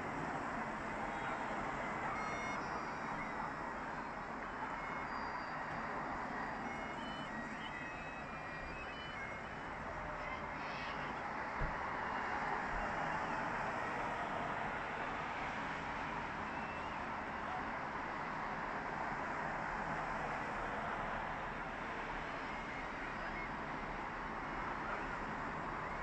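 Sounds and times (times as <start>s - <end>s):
distant crowd shouting and cheering: 0.0s - 26.0s.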